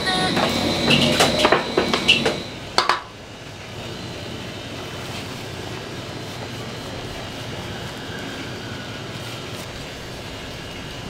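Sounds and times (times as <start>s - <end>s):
steady background rumble: 0.0s - 11.0s.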